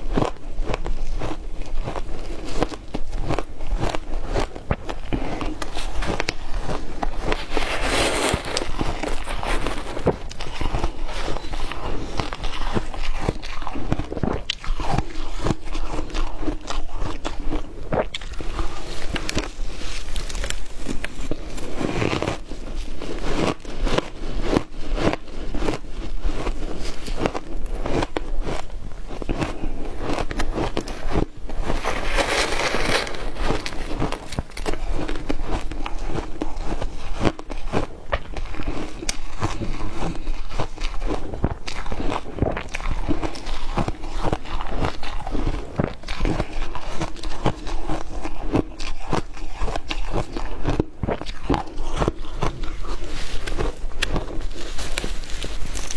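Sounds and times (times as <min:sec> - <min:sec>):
ice crunching between teeth: 0:00.3 - 0:16.4, 0:17.0 - 0:22.5, 0:26.4 - 0:46.6, 0:47.3 - 0:55.9.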